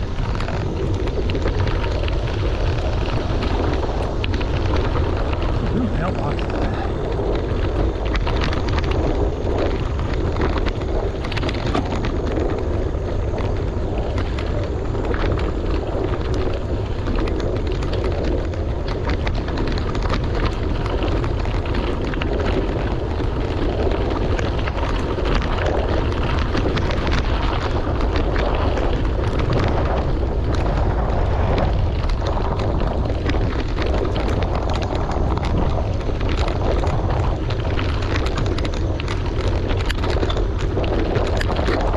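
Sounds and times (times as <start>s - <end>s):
bicycle tyres crunching on gravel: 0.0s - 41.9s
wind buffeting microphone: 0.0s - 41.9s.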